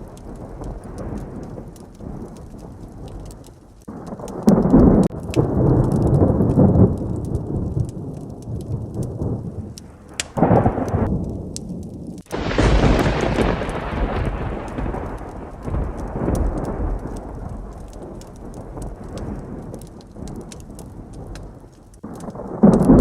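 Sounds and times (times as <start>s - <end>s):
heavy rain: 0.0s - 23.0s
thunderclap: 0.0s - 23.0s.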